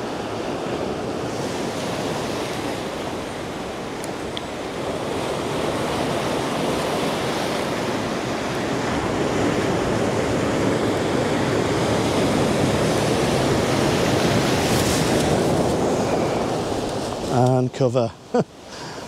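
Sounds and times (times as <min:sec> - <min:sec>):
surf breaking over rocks: 0:01.2 - 0:19.0.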